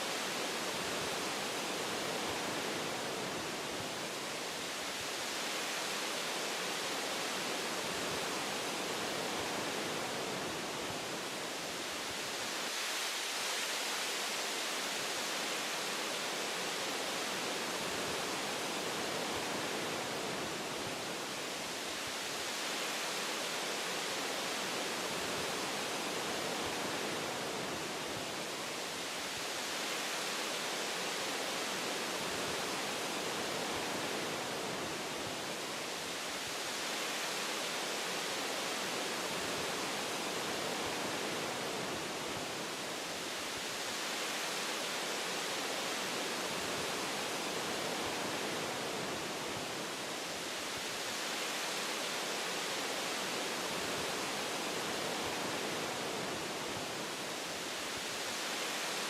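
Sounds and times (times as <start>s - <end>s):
wind through tree branches: 0.0s - 59.0s.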